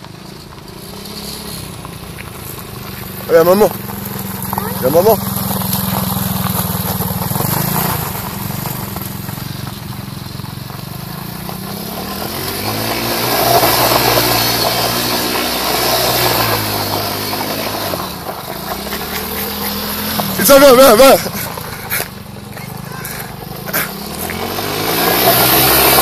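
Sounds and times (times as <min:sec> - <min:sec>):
quad bike engine revving: 0:00.0 - 0:26.0.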